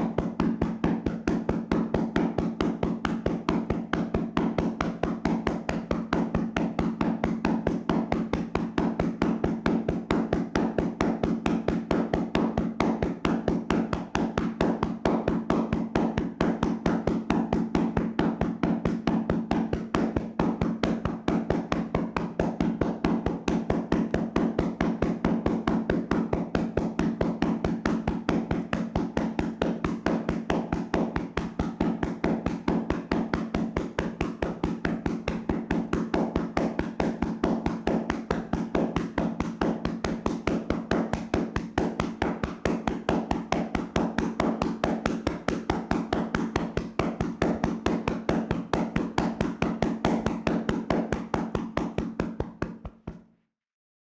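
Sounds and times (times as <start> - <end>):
hands slapping on body: 0.0 - 53.3.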